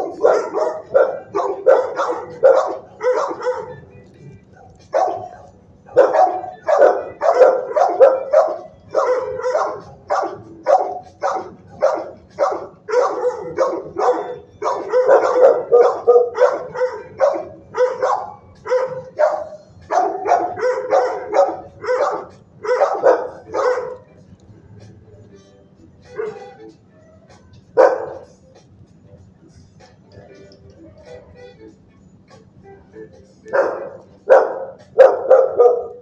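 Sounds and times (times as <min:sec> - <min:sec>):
dogs barking: 0:00.0 - 0:25.4, 0:26.0 - 0:26.7, 0:27.3 - 0:28.5, 0:32.4 - 0:36.0.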